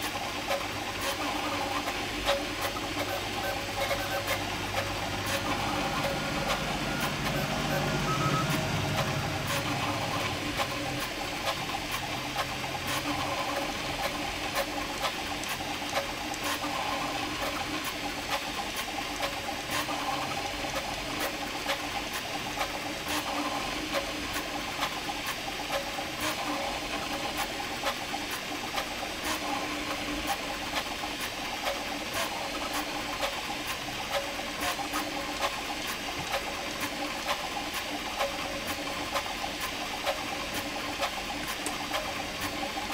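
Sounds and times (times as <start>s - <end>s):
printer stepper motors whirring: 0.0s - 42.9s.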